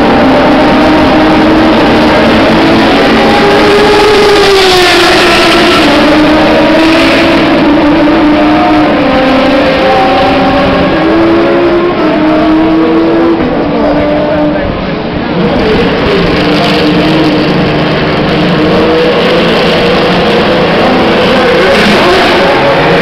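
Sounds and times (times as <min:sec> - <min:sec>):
racing engines running: 0:00.0 - 0:23.0.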